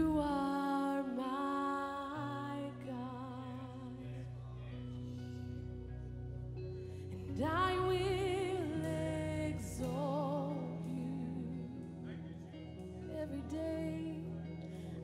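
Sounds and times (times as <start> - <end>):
woman singing worship song: 0.0 - 4.7, 7.0 - 15.0
instrumental backing of low notes: 0.0 - 15.0.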